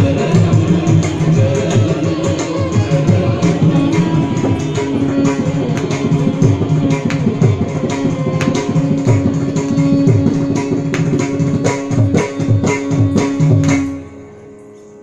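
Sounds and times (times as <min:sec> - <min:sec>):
mridangam drum strokes: 0:00.0 - 0:15.0.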